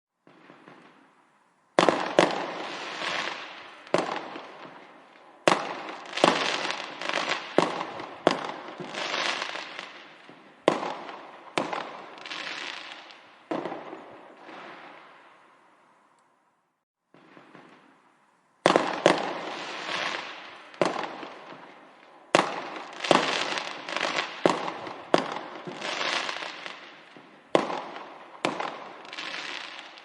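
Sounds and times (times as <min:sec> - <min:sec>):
fireworks bangs: 0:00.2 - 0:01.2, 0:01.8 - 0:15.4, 0:17.1 - 0:30.0.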